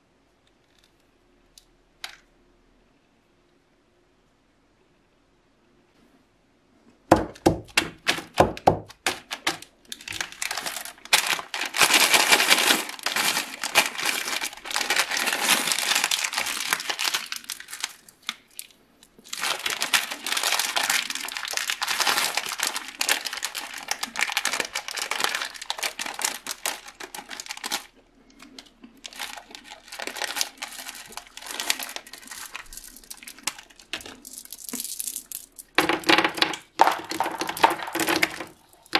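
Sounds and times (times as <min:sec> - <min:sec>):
plastic candy wrappers crinkling: 0:07.3 - 0:38.9.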